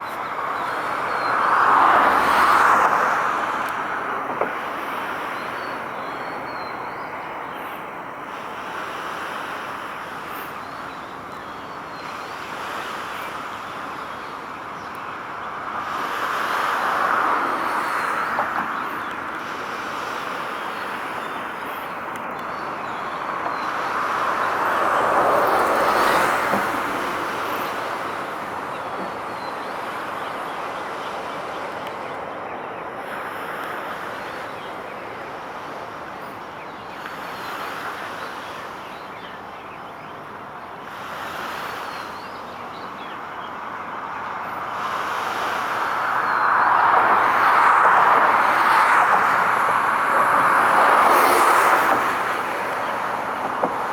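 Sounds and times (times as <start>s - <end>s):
vehicles passing: 0.0s - 11.3s, 13.8s - 53.9s.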